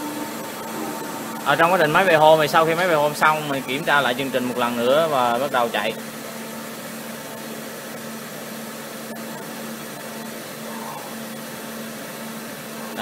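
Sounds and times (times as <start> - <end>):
milling machine whirring hum: 0.0 - 13.0.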